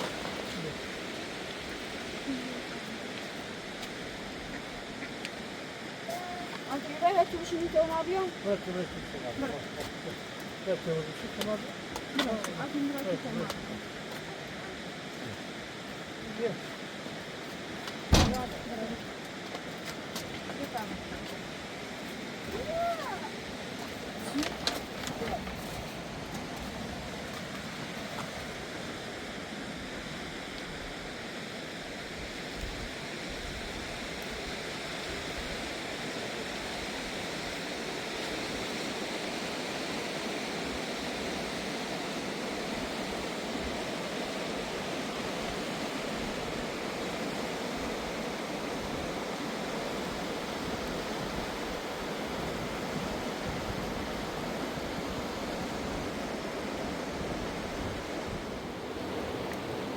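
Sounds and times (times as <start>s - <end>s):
mountain river rushing: 0.0s - 59.9s.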